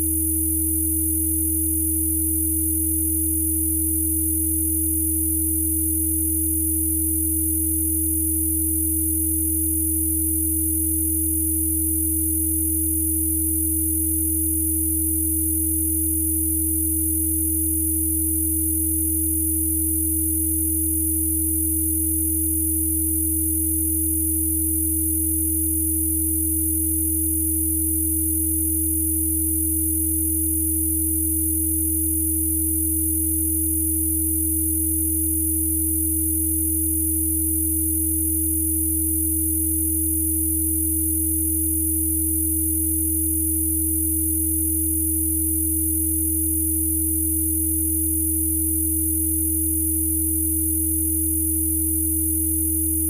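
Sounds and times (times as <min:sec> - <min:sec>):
mid sine tone: 0:00.0 - 0:53.0.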